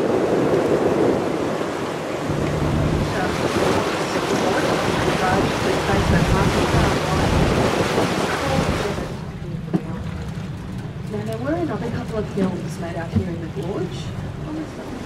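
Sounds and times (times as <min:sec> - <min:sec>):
boat motor running: 0:00.0 - 0:15.0
water rushing past hull: 0:00.0 - 0:15.0
wind buffeting microphone: 0:00.0 - 0:15.0.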